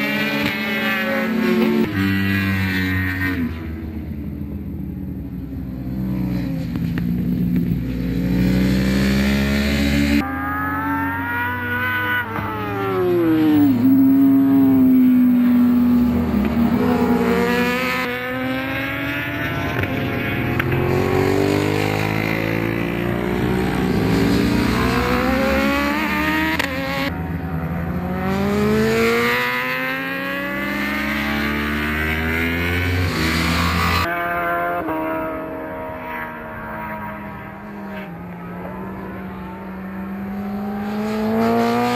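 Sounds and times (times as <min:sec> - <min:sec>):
racing motorcycles revving: 0:00.0 - 0:41.9.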